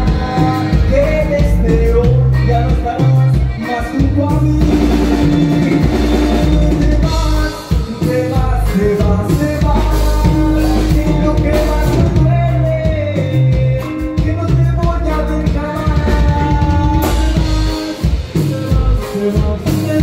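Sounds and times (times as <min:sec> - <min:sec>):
drum kit beat: 0:00.0 - 0:20.0
live band music: 0:00.0 - 0:20.0
person singing: 0:00.0 - 0:20.0.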